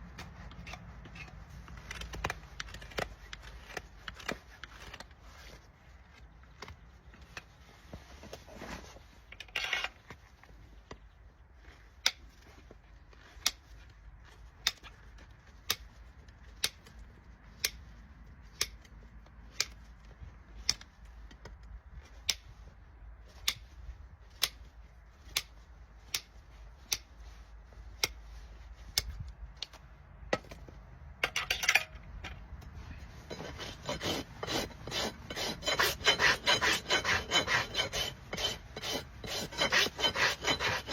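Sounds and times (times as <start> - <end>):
rasp filing a hoof: 0.2 - 9.0, 11.6 - 29.2, 32.9 - 40.9.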